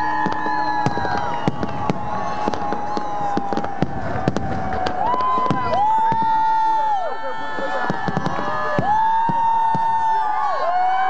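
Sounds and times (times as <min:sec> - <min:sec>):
firework whistling: 0:00.0 - 0:06.9, 0:07.5 - 0:10.4
firework bangs: 0:00.0 - 0:10.4.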